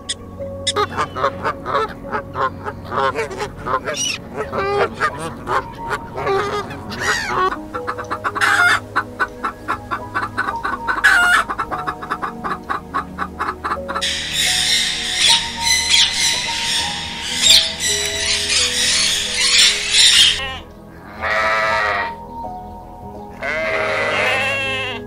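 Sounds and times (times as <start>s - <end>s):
animal calls: 0.0s - 22.2s, 23.4s - 25.0s
background music: 0.0s - 25.0s.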